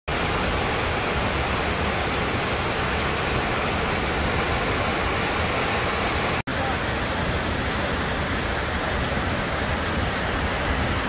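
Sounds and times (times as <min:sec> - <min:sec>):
waterfall rushing: 0:00.1 - 0:11.0.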